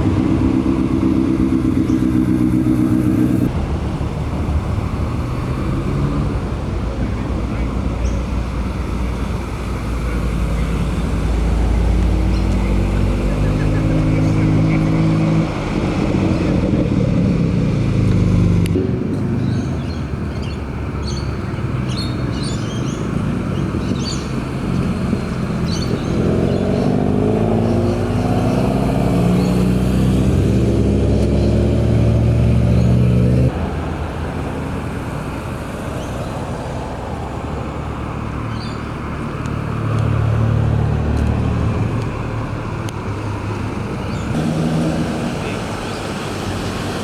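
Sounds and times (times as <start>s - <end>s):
car engine accelerating: 0.0s - 47.0s
car engines passing slowly: 0.0s - 47.0s.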